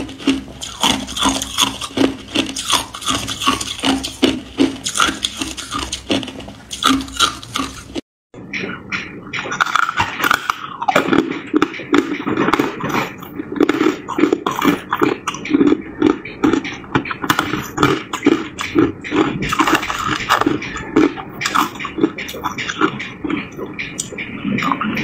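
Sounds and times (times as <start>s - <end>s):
chewing ice crunching: 0.0s - 8.0s, 9.4s - 25.0s.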